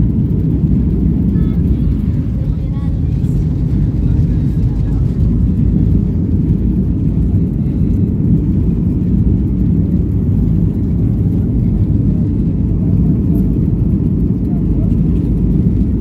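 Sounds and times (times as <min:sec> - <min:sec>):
jet engine rumble in cabin: 0:00.0 - 0:16.0
wheels on tarmac: 0:00.0 - 0:16.0.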